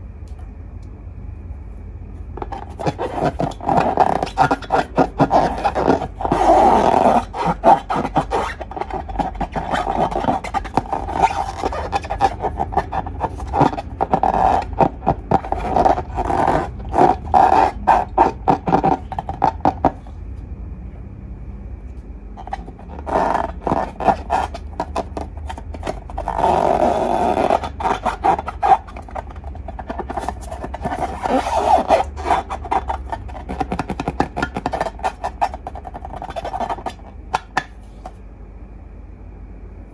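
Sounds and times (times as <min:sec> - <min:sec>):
rubber balloon squeaking: 0:02.4 - 0:20.1, 0:22.4 - 0:38.2.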